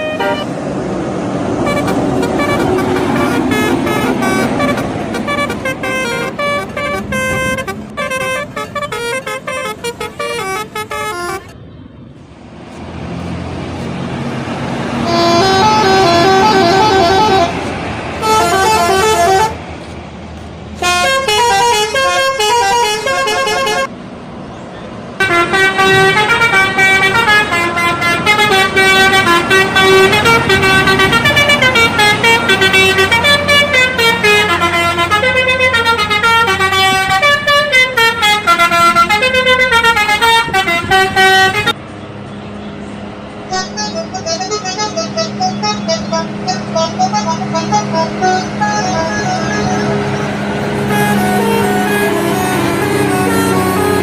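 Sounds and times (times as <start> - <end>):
bus horns tooting tunes: 0.0 - 0.6, 1.3 - 12.2, 14.6 - 20.0, 20.8 - 23.9, 25.2 - 42.8, 43.4 - 54.0
engine and road noise: 0.0 - 54.0.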